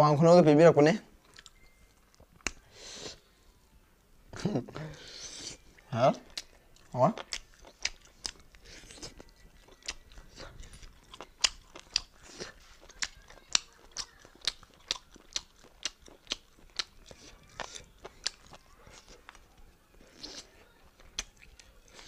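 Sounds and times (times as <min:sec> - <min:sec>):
chewing with mouth clicks: 0:01.2 - 0:02.6, 0:05.3 - 0:22.0.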